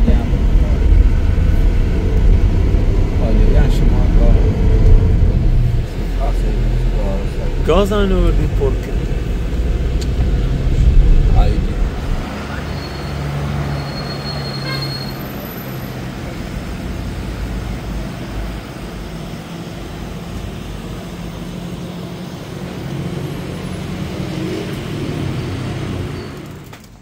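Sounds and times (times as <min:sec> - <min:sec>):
road noise: 0:00.0 - 0:27.0
vehicle engine hum: 0:00.0 - 0:27.0.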